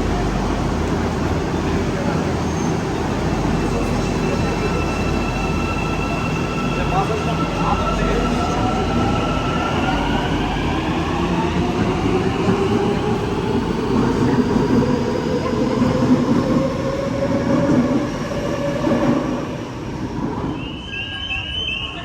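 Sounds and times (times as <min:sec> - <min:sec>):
train cars rumbling on rails: 0:00.0 - 0:22.0.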